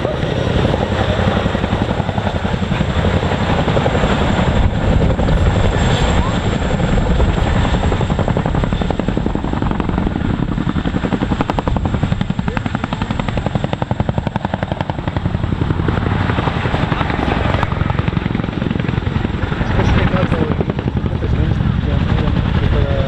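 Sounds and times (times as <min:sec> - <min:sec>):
helicopter rotor blade chop: 0:00.0 - 0:23.0.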